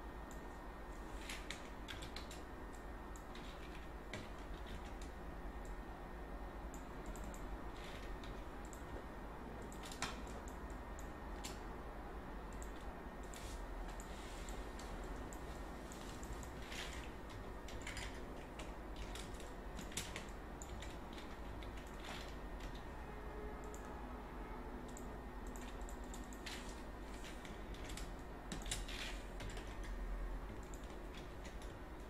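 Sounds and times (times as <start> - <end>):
faint low steady hum: 0.0 - 32.0
computer keyboard and mouse clicks: 1.2 - 5.8, 6.7 - 11.6, 12.5 - 22.9, 23.6 - 23.9, 24.8 - 32.0.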